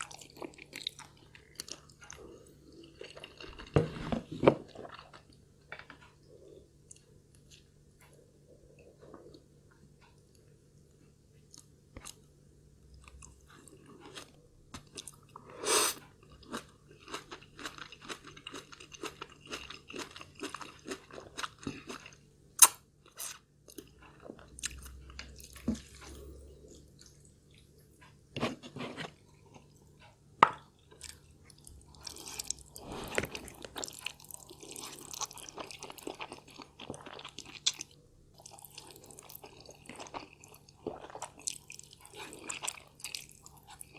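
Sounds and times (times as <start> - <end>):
person chewing and crunching food: 0.0 - 43.9.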